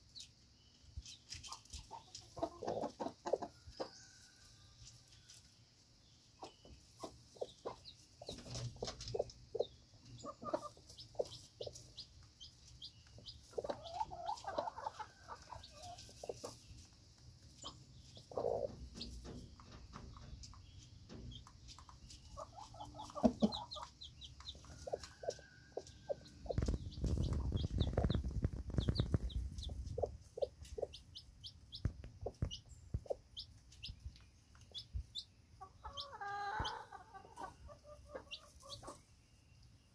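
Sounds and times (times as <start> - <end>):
chick peeping: 0.1 - 39.9
hen clucking: 1.3 - 3.9, 6.4 - 39.1.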